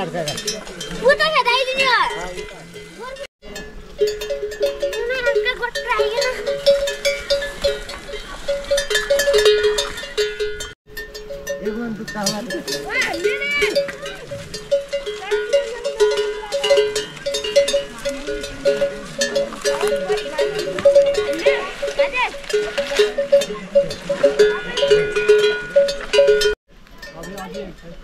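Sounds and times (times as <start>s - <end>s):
livestock bells clanking: 0.0s - 28.0s.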